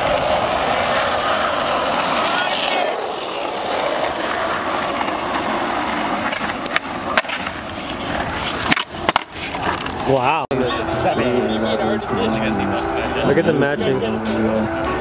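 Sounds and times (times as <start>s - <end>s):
skateboard wheels rolling on asphalt: 0.0s - 12.8s.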